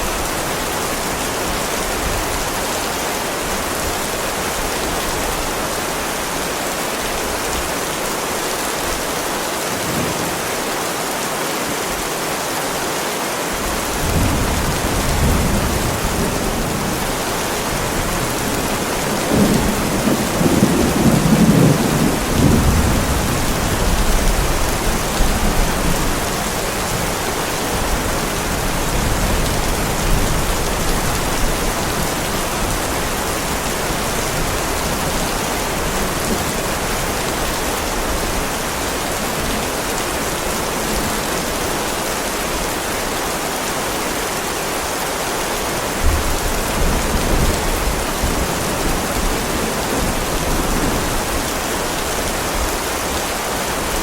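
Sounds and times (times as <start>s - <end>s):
heavy rain on a driveway: 0.0s - 54.0s.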